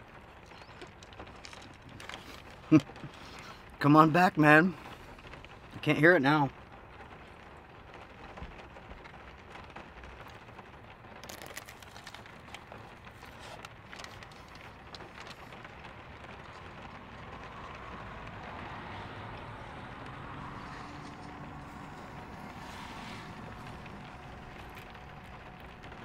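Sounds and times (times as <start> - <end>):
rain on a truck: 0.0 - 26.0.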